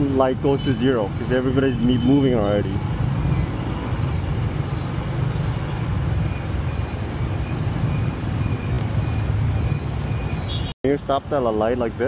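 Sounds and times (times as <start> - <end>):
city traffic: 0.0 - 12.0
road and wind noise: 0.0 - 12.0.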